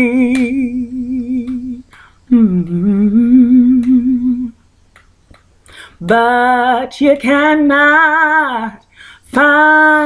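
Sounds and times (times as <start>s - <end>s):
woman singing unaccompanied: 0.0s - 5.0s, 5.7s - 10.0s.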